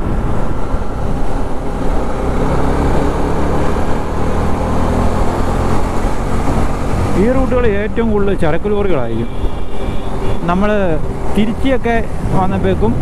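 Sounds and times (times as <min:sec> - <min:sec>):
heavy lorry traffic: 0:00.0 - 0:13.0
motorcycle engine drone: 0:00.0 - 0:13.0
wind and road noise: 0:00.0 - 0:13.0.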